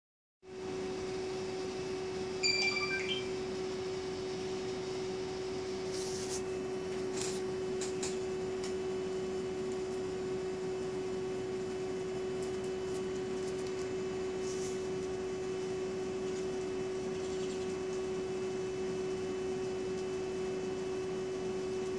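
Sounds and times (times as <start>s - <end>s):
electric fan hum: 0.5s - 21.9s.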